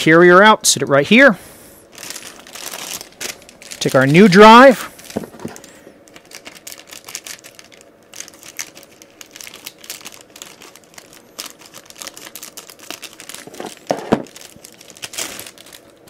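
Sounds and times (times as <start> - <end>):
plastic bag crinkling: 1.9 - 16.0.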